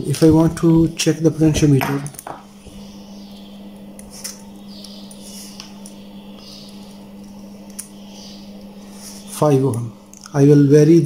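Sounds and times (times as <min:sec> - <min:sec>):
handling test probes: 0:00.0 - 0:11.0
steady low hum: 0:00.0 - 0:11.0.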